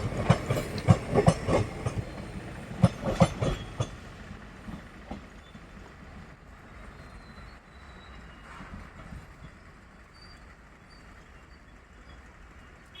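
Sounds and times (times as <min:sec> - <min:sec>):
train coaches rumbling on track: 0:00.0 - 0:13.0.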